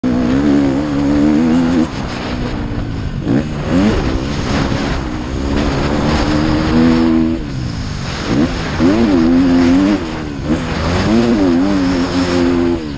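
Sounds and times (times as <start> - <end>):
motorbike engine revving: 0.0 - 12.9.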